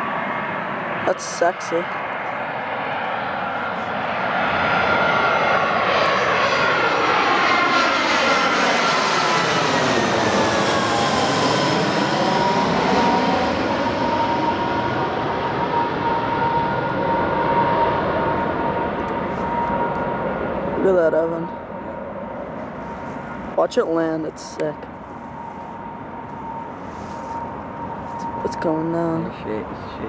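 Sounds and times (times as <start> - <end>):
airliner engine whine: 0.0 - 30.0.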